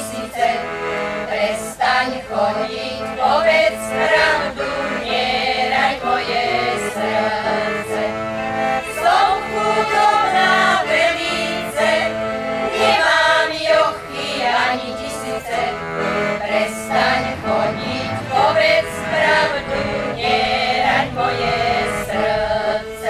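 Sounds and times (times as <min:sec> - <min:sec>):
accordion: 0:00.0 - 0:23.0
women singing folk song: 0:00.0 - 0:23.0.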